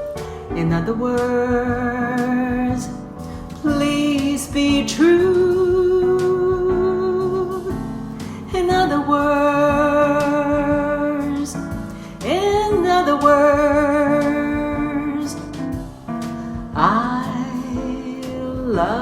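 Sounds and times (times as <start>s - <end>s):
piano accompaniment: 0.0s - 19.0s
woman singing with vibrato: 0.5s - 15.7s, 16.8s - 19.0s.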